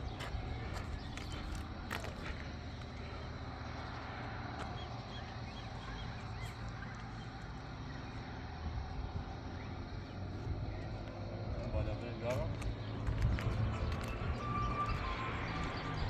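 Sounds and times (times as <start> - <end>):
engine humming at idle: 0.0 - 16.0.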